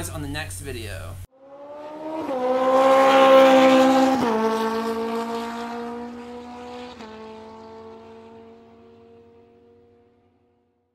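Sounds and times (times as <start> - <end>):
engine accelerating and shifting gears: 1.3 - 10.9.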